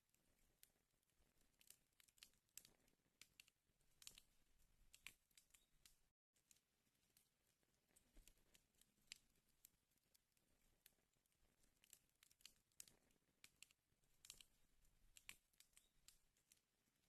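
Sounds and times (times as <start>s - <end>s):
faint wood fire crackling: 0.0s - 17.0s.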